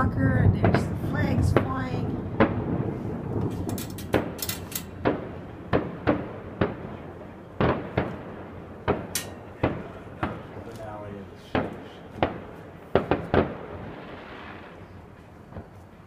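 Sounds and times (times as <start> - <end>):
distant fireworks bangs: 0.0 - 16.0
fireworks crackling: 0.0 - 16.0.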